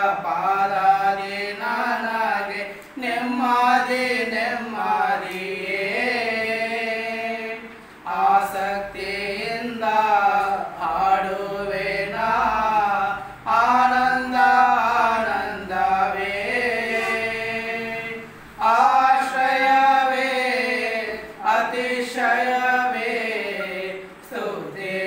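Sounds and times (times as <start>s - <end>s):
men singing a cappella: 0.0s - 25.0s.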